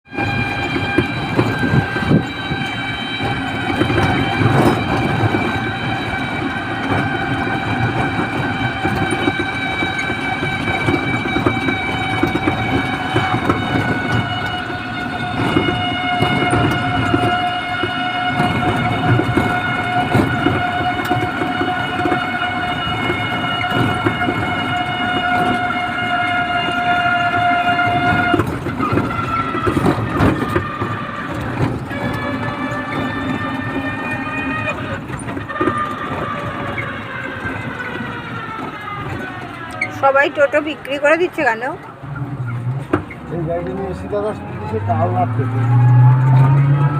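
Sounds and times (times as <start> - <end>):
vehicle rumble and rattle: 0.0 - 46.9
vehicle running with whine: 0.0 - 46.9.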